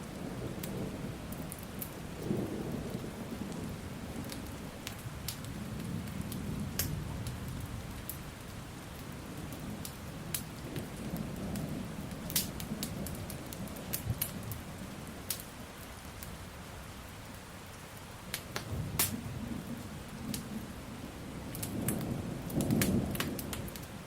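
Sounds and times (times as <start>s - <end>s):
low rolling thunder: 0.0s - 8.3s, 9.2s - 15.3s, 18.6s - 24.0s
steady rain: 0.0s - 24.0s
wood fire crackling: 0.0s - 24.0s.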